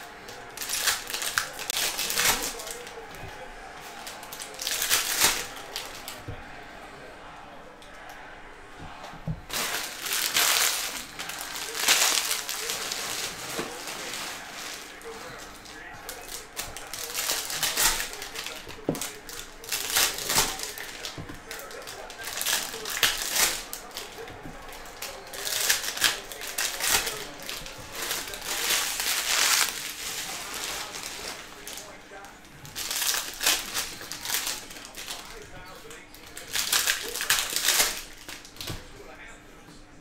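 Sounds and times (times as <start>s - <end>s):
trading cards rustling: 0.0s - 6.6s, 8.9s - 38.9s.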